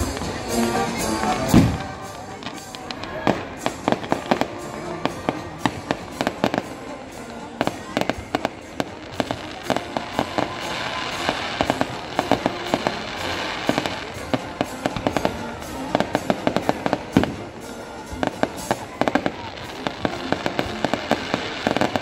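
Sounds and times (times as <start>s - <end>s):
background music: 0.0s - 22.0s
fireworks bangs: 0.0s - 22.0s
fireworks crackling: 0.0s - 22.0s.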